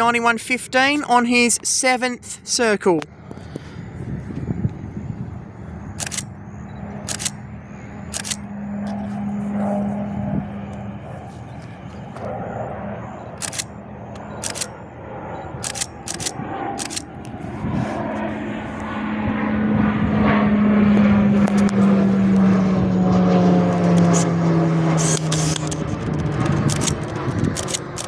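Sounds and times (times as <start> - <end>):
propeller plane flying past: 0.0 - 28.0.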